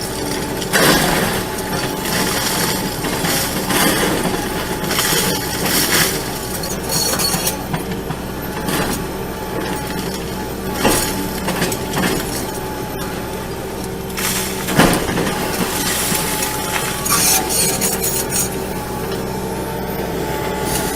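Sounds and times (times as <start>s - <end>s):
heavy machine engine running: 0.0s - 20.9s.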